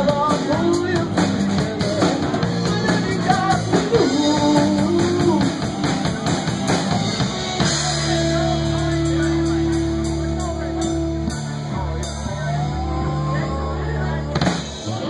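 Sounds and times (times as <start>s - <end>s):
drum kit: 0.0s - 15.0s
person singing: 0.0s - 15.0s.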